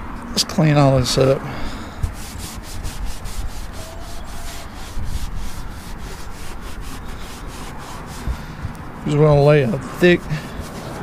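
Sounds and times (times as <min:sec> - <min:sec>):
paper towel rubbing metal: 0:02.0 - 0:11.0.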